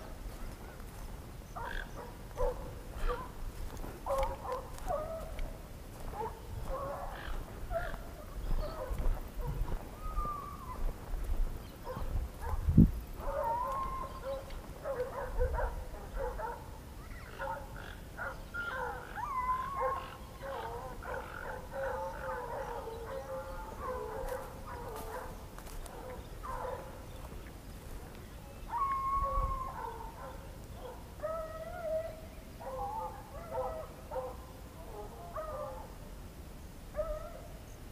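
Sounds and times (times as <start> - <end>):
dogs barking and howling: 1.6 - 11.0, 11.8 - 27.3, 28.7 - 36.0, 37.0 - 37.6.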